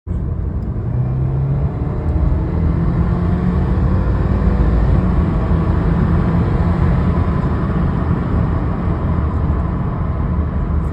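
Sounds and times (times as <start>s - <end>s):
car engine low rumble: 0.1s - 10.9s.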